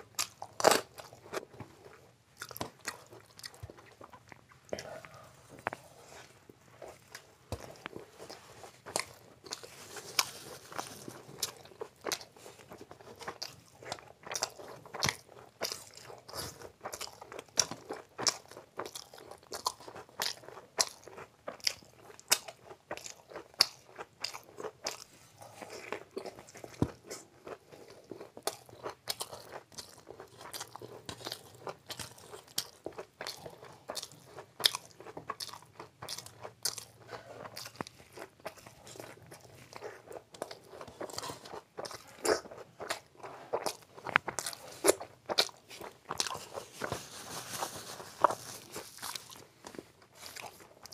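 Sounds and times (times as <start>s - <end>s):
man chewing food: 0.0s - 50.9s.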